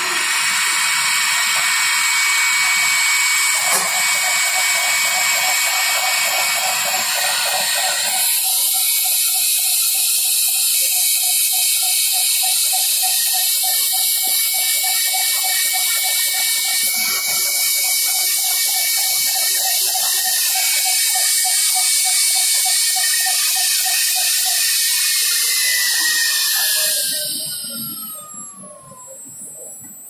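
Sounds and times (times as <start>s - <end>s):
drilling machine whine: 0.0s - 30.0s.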